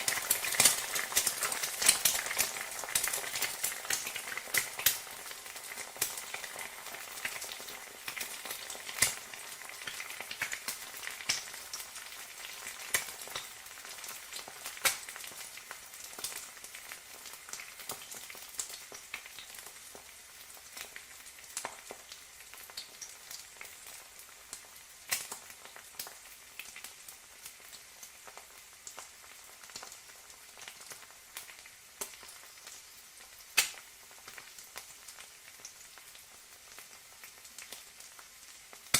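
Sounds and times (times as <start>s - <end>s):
egg sizzling in oil: 0.0s - 38.9s
oil popping and crackling: 0.0s - 38.9s.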